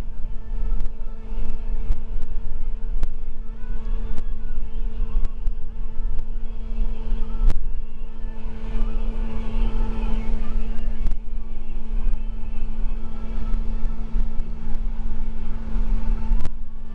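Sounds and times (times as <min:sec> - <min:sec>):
bus engine and road rumble: 0:00.0 - 0:16.9.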